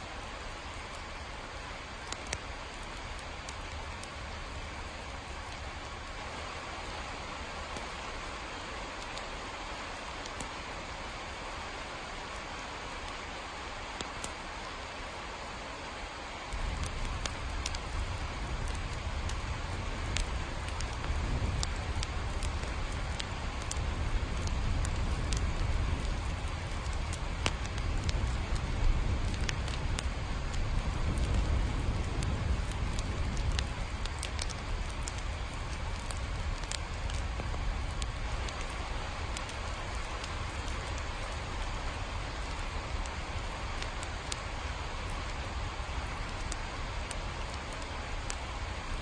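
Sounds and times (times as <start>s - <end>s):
steady rain: 0.0s - 49.0s.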